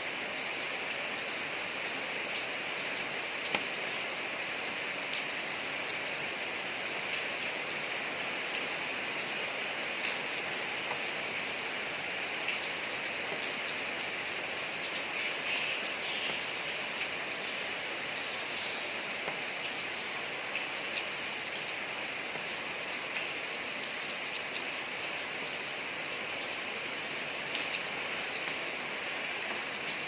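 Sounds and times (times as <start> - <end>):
rain falling on street: 0.0 - 30.0.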